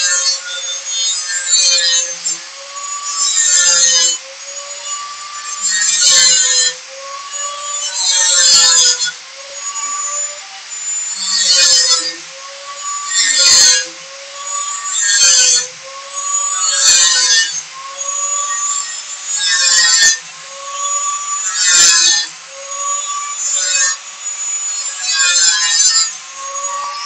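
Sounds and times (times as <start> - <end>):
angle grinder cutting wire mesh: 0.0 - 27.0.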